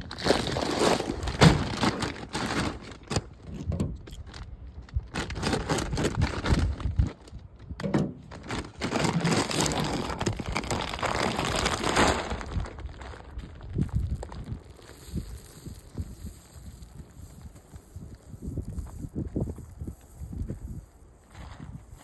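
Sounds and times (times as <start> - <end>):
feed bags crinkling: 0.0 - 22.0.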